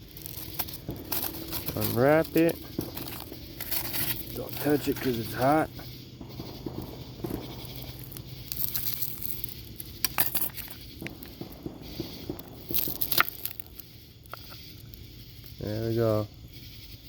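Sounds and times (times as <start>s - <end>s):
aluminium foil crinkling: 0.0s - 5.8s, 6.8s - 15.0s.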